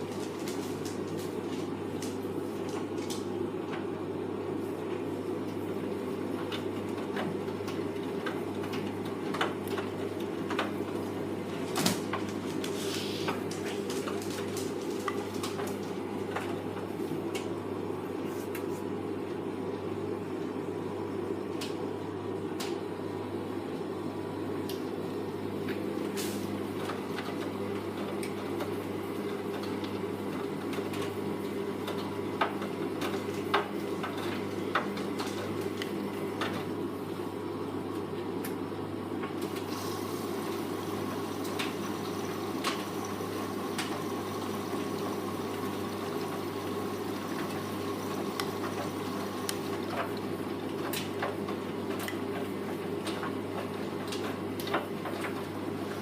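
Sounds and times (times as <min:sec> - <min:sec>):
water rushing in washing machine: 0:00.0 - 0:21.8, 0:24.9 - 0:56.0.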